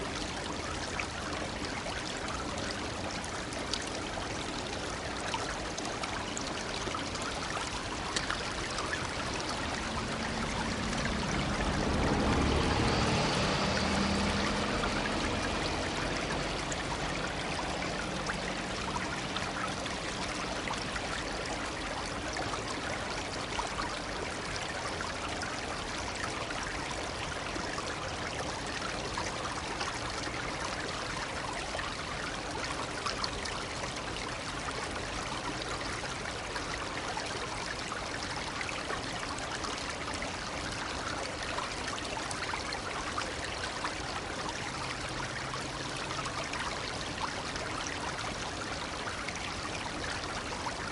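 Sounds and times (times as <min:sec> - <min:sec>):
brook babbling: 0:00.0 - 0:50.9
small trickling splashes: 0:00.0 - 0:50.9.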